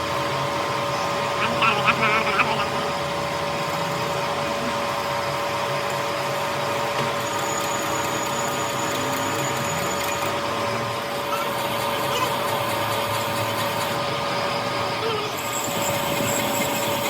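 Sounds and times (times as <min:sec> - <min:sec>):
workshop machine whining: 0:00.0 - 0:17.0.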